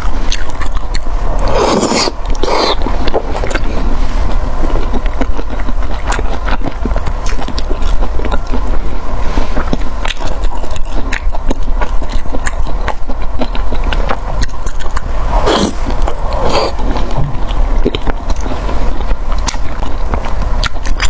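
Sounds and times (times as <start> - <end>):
person chewing: 0.0 - 21.0
steady low rumble: 0.0 - 21.0.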